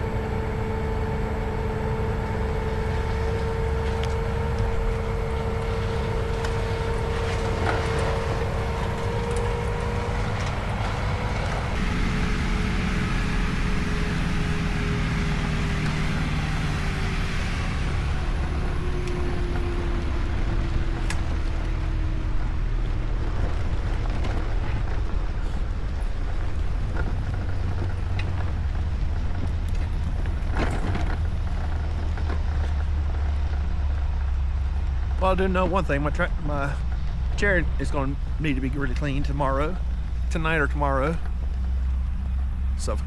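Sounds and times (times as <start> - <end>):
motors rumbling: 0.0 - 43.0.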